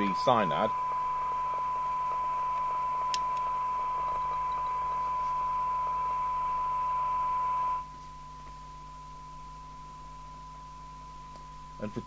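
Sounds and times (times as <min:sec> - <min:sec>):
radio hiss: 0:00.0 - 0:12.0
steady test tone: 0:00.0 - 0:12.0.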